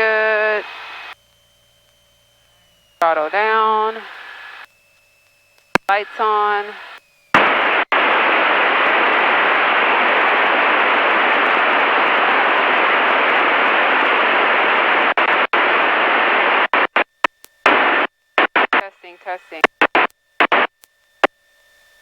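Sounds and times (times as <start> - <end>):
loud static hiss: 0.0 - 1.2, 2.5 - 4.7, 5.7 - 20.7.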